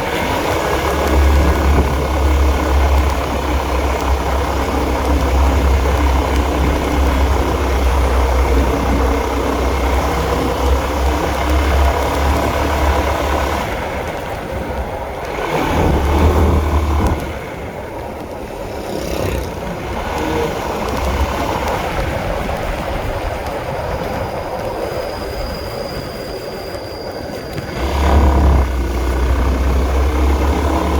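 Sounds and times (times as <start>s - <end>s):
motorcycle engine while riding: 0.0s - 30.9s
wind and road noise: 0.0s - 30.9s.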